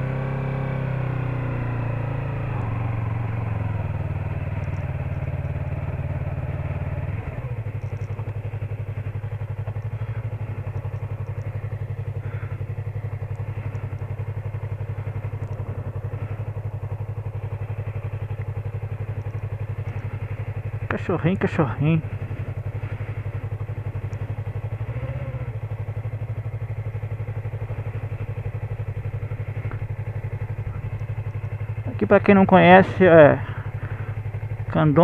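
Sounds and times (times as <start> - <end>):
motorcycle engine running at low revs: 0.0 - 35.0.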